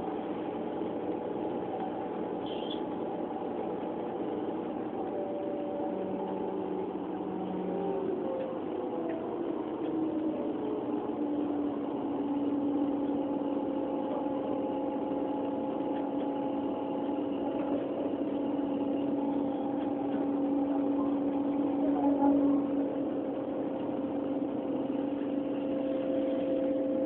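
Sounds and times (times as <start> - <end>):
train hum from inside carriage: 0.0 - 27.0.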